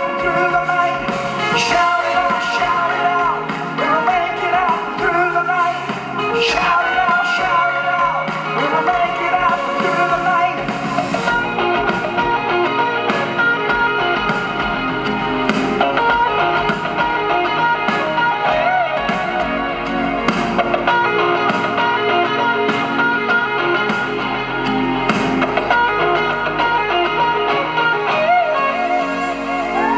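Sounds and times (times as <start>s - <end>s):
rock music with singing: 0.0s - 29.9s.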